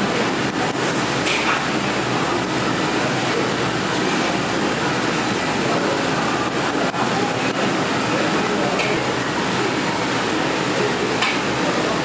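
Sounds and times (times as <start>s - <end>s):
ventilation hum: 0.0s - 12.0s.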